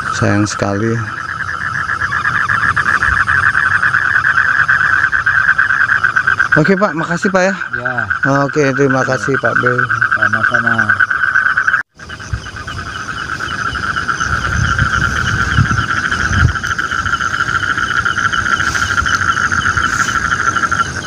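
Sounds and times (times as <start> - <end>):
frogs and crickets trilling: 0.0 - 21.0.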